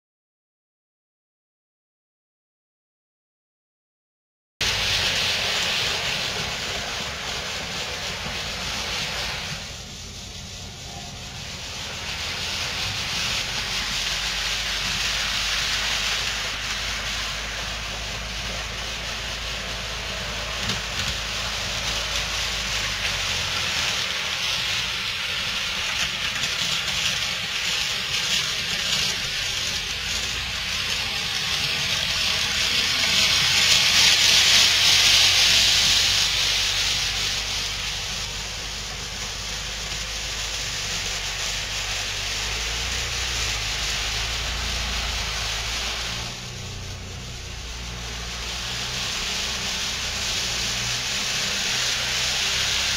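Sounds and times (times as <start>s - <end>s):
model trains whirring on track: 4.6s - 52.9s.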